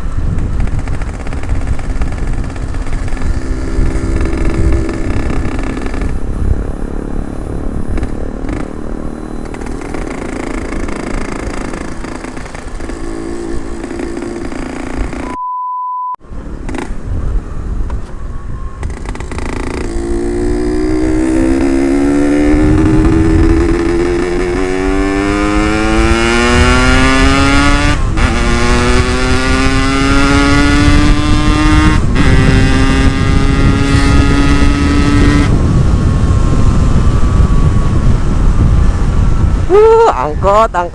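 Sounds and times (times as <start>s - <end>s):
motorcycle engine accelerating: 0.0s - 15.4s, 16.2s - 39.8s.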